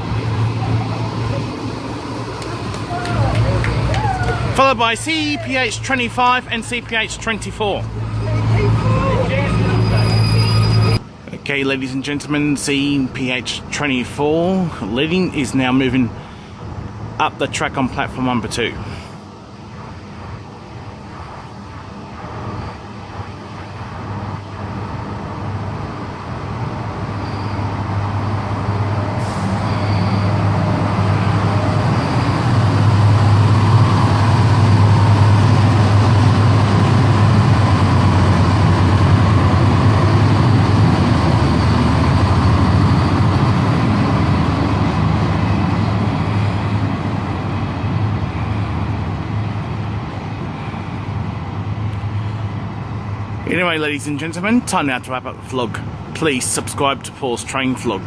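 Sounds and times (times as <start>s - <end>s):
diesel engine hum: 0.0s - 58.0s.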